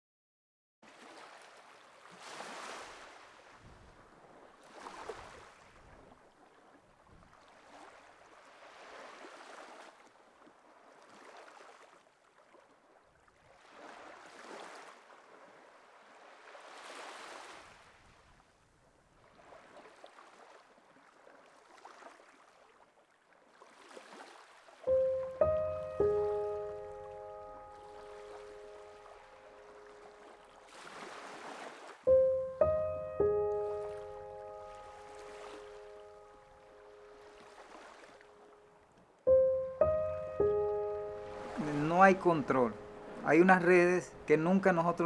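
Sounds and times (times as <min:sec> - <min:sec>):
sea waves washing ashore: 0:00.9 - 0:18.4, 0:23.6 - 0:45.0.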